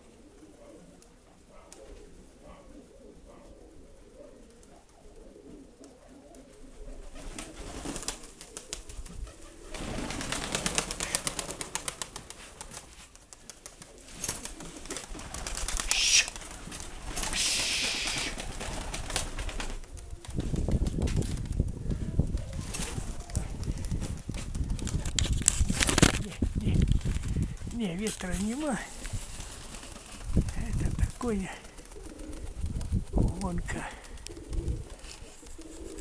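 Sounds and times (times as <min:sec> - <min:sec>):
pigeons cooing: 0:00.0 - 0:36.0
loud rustling crackling noise: 0:07.1 - 0:36.0.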